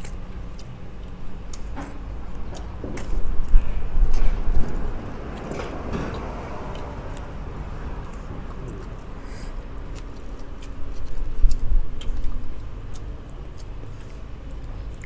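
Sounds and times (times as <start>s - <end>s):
low rumble: 0.0s - 12.8s
chewing and gnawing bones: 0.0s - 15.0s.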